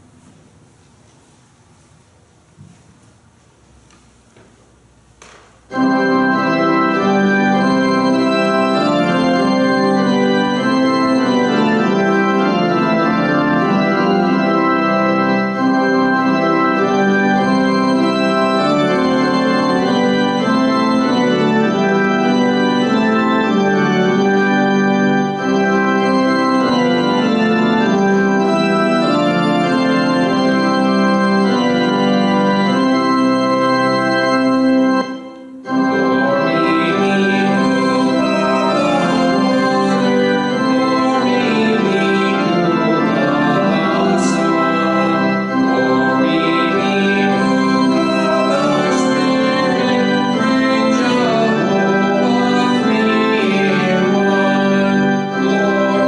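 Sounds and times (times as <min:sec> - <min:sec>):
organ playing hymn chords: 0:02.4 - 0:56.0.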